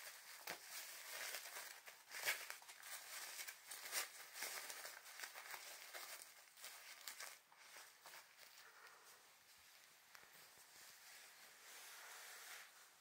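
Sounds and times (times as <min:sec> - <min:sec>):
plastic diaper crinkling: 0:00.0 - 0:12.8.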